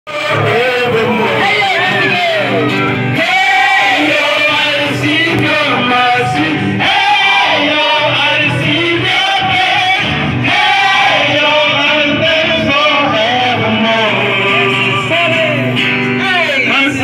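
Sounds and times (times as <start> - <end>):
electric guitar: 0.1 - 17.0
group singing into microphones: 0.1 - 17.0.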